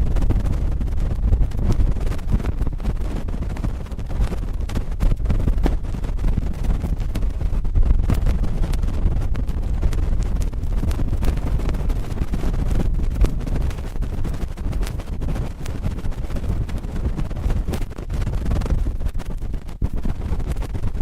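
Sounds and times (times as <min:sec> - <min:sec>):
cotton swab rubbing a microphone: 0:00.0 - 0:21.0.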